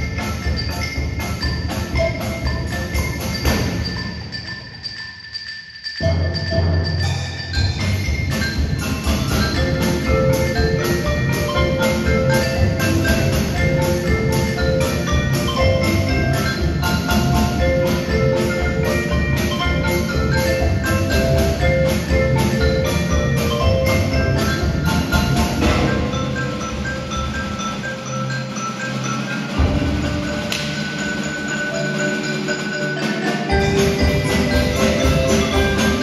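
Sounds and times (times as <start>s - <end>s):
marimbas playing a tune: 0.0s - 36.0s
percussion ensemble playing a march: 0.0s - 36.0s.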